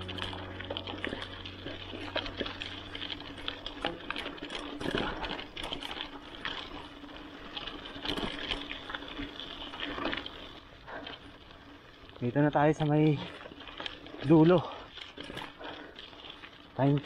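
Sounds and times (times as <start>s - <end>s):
bike clicking and rattling: 0.0s - 17.0s
tyres crunching on gravel: 0.0s - 17.0s.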